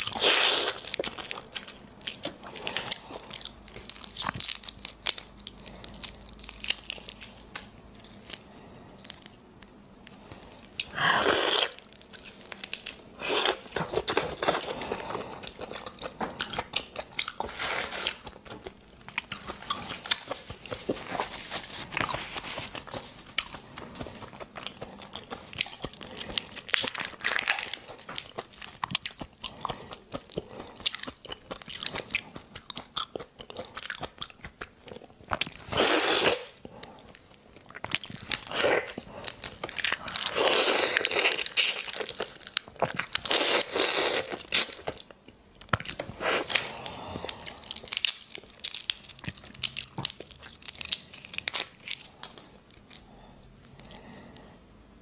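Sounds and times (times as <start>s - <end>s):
chewing and crunching shrimp: 0.0s - 54.5s.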